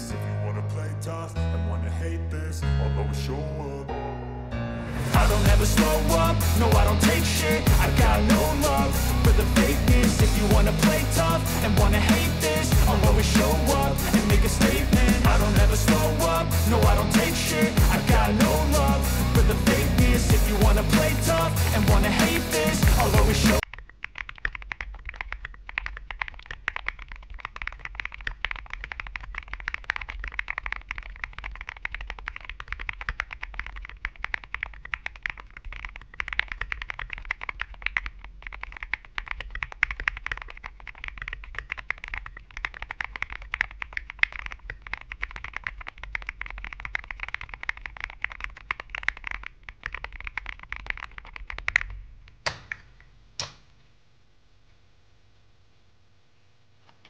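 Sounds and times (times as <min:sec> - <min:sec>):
mechanical keyboard typing: 0:05.2 - 0:52.9.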